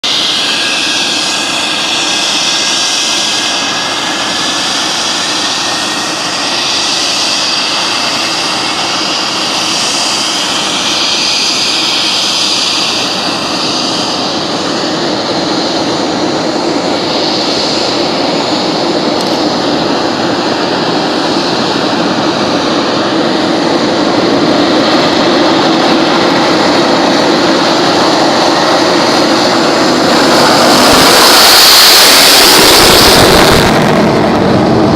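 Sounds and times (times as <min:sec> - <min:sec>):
jet engine running: 0:00.0 - 0:34.9.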